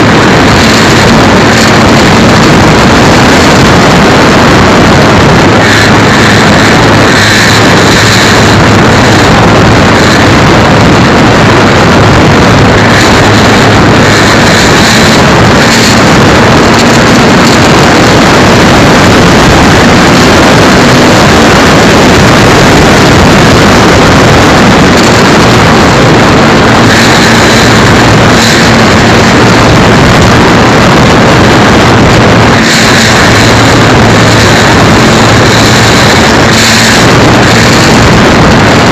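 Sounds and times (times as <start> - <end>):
model airplane motor and propeller: 0.0 - 38.9
wind rushing over microphone: 0.0 - 38.9.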